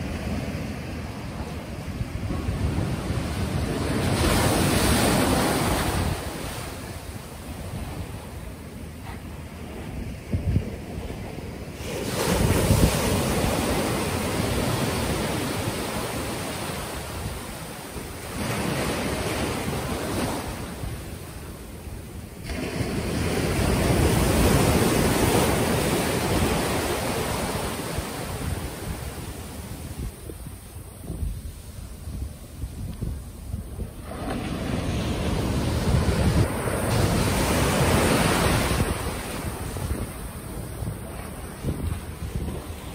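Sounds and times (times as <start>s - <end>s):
ocean surf washing in: 0.0s - 42.9s
wind on microphone: 0.0s - 42.9s.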